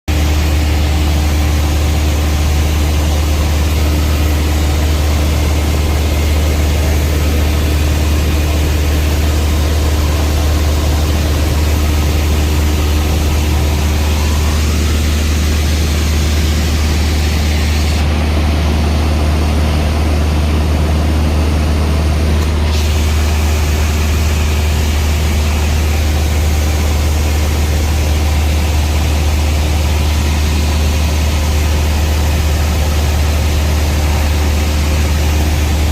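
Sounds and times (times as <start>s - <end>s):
engine drone with hiss: 0.1s - 35.9s.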